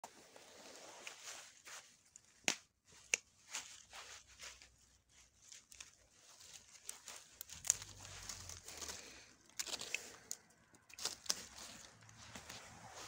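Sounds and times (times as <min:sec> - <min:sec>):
dry canes and leaves rustling: 0:00.2 - 0:13.0.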